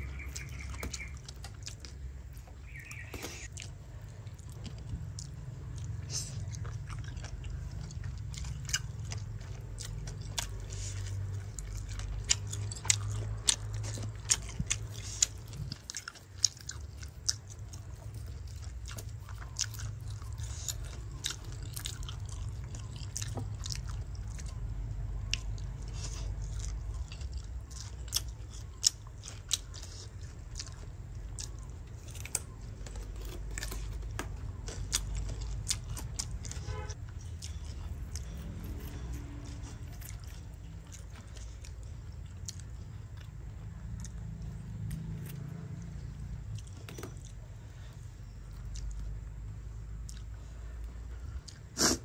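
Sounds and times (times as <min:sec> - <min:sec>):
low steady hum: 0:00.0 - 0:51.8
person chewing and crunching food: 0:00.0 - 0:52.0.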